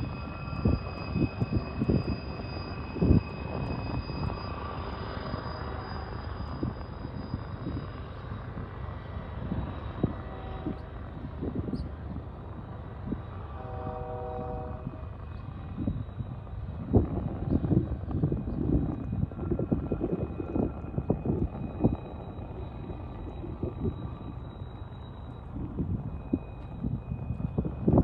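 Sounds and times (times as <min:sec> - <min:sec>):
freight cars rumbling on rails: 0:00.0 - 0:28.0.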